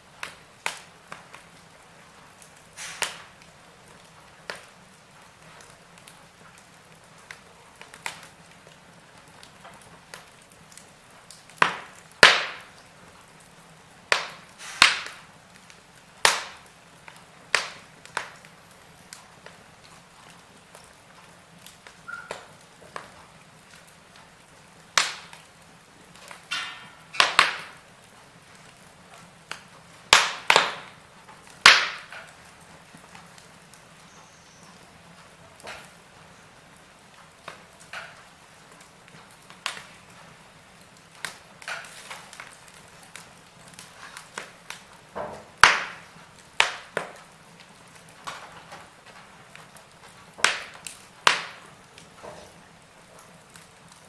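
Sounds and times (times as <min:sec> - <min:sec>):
faint steady hiss: 0:00.0 - 0:54.0
sharp pops from fire: 0:00.0 - 0:54.0
wood fire crackling: 0:00.0 - 0:54.0.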